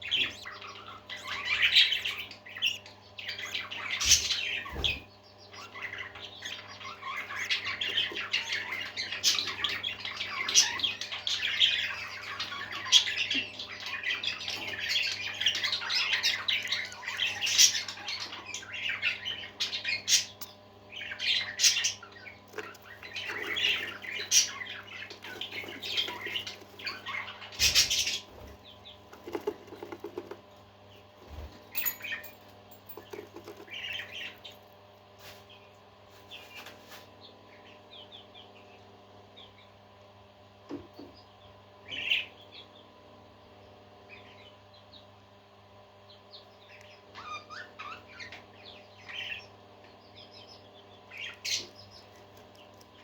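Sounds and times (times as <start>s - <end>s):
parakeets chirping and chattering: 0.0s - 53.0s.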